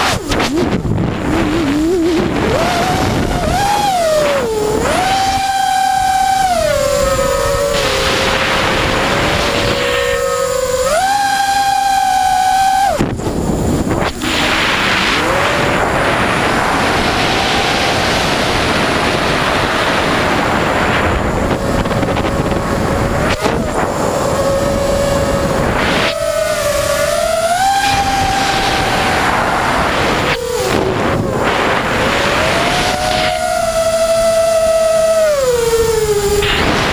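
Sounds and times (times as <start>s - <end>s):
quadcopter motors whining: 0.0s - 36.9s
rushing wind: 0.0s - 36.9s.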